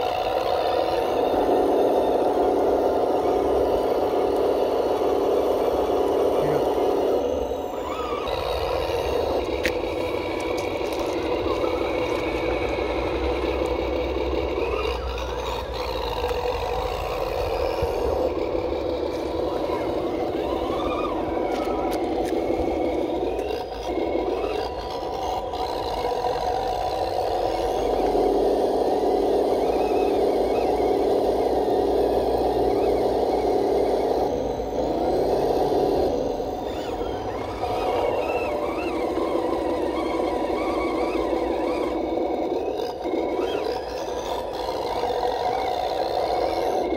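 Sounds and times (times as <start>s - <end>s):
electric motor whirring: 0.0s - 46.9s
toy truck wading through water: 0.0s - 46.9s.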